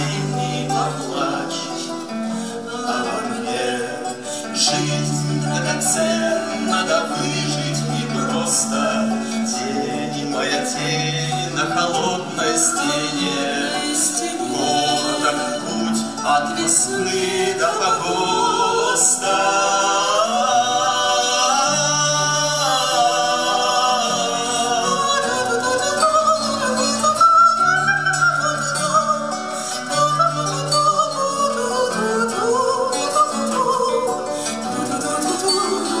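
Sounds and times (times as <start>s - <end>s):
acoustic guitars: 0.0s - 36.0s
man singing: 0.0s - 36.0s
woman singing: 0.0s - 36.0s.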